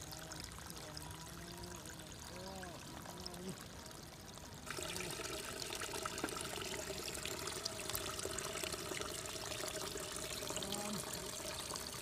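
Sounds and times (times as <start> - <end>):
crackling trickling noise: 0.0 - 12.0.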